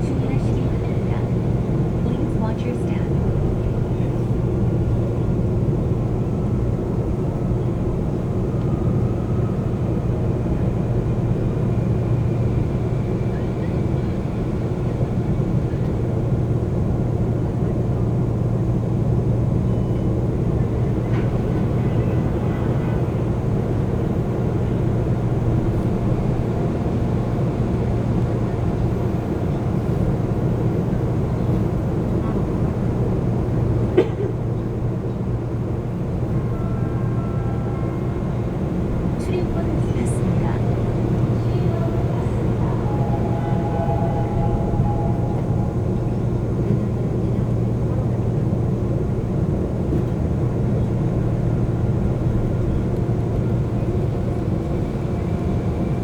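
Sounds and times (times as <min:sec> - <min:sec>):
station and cabin noise: 0:00.0 - 0:56.0
subway car equipment hum: 0:00.0 - 0:56.0.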